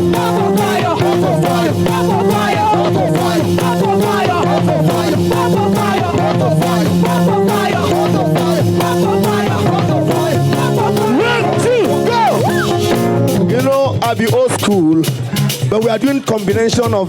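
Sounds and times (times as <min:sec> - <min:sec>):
bass notes: 0:00.0 - 0:15.9
live band gospel music: 0:00.0 - 0:17.0.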